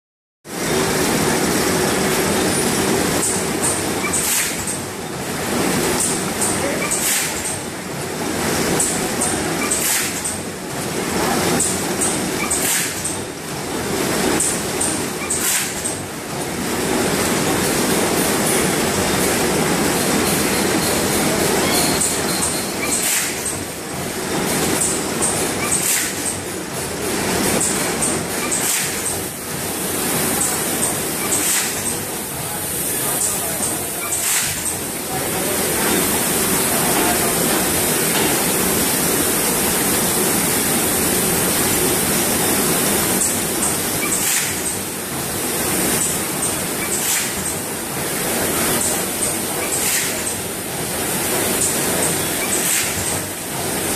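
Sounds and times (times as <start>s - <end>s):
packing machine mechanical noise: 0.5s - 53.9s.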